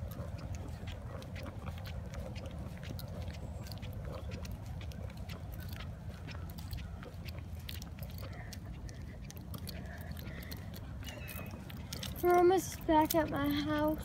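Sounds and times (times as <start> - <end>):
footsteps on asphalt: 0.0 - 14.0
person panting: 0.1 - 14.0.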